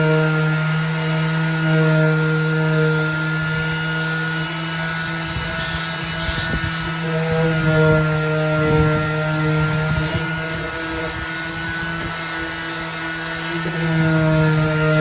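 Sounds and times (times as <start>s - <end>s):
orbital sander motor hum: 0.0s - 15.0s.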